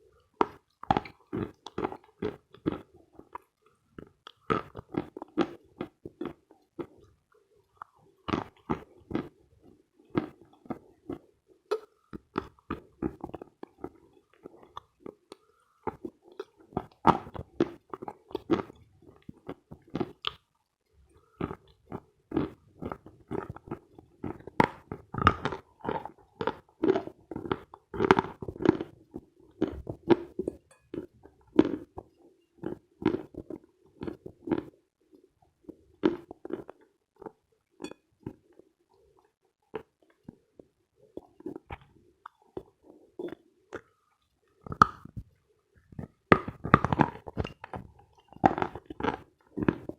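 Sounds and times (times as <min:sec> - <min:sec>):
chewing chalk crunches: 0:00.4 - 0:20.5, 0:21.1 - 0:38.6, 0:39.2 - 0:49.9.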